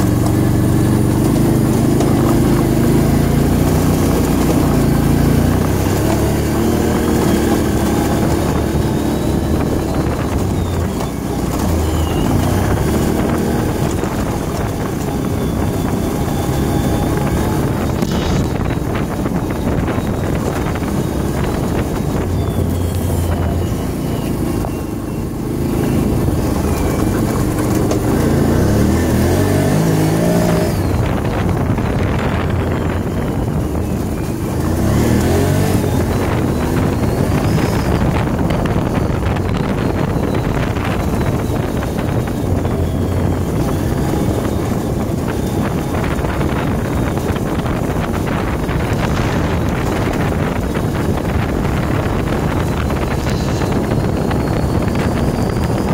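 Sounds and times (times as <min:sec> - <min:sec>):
off-road vehicle engine running: 0:00.0 - 0:55.9
wind buffeting microphone: 0:00.0 - 0:55.9.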